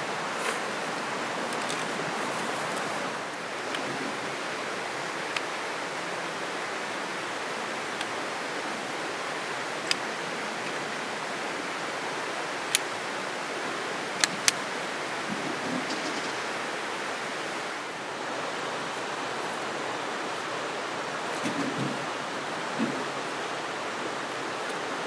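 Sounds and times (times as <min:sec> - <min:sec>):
flowing river water: 0:00.0 - 0:25.0.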